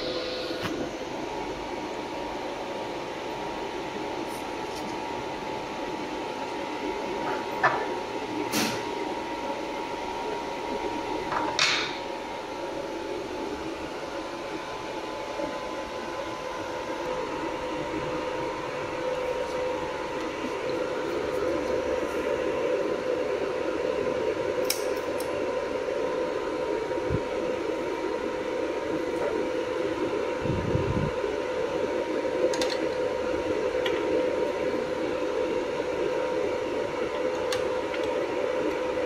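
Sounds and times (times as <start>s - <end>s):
laser welding machine hum: 0.0s - 39.0s.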